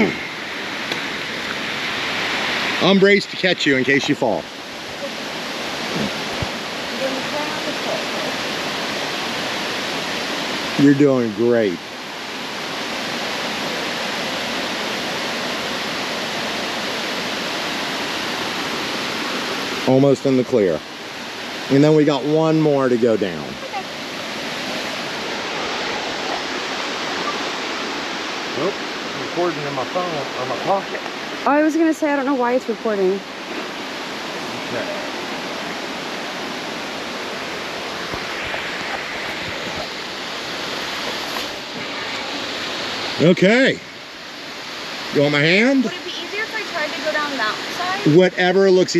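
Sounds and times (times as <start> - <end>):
flowing river water: 0.0 - 48.9.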